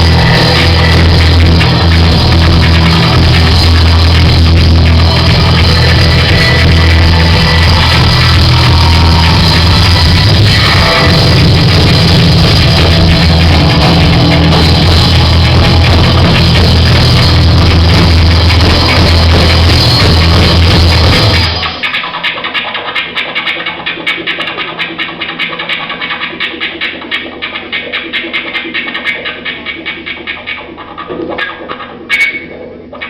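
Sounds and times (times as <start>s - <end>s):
live rock music: 0.0s - 33.0s.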